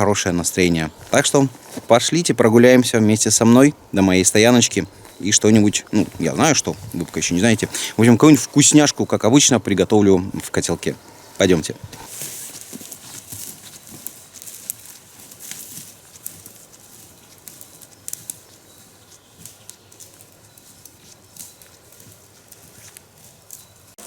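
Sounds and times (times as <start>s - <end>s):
footsteps crunching on forest floor: 0.0s - 24.0s.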